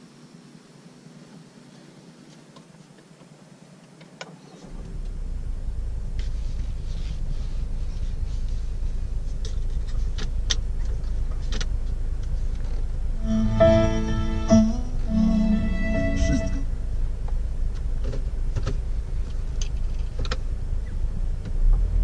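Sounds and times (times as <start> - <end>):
faint steady hum: 0.0 - 21.5
car engine and road rumble: 0.0 - 22.0.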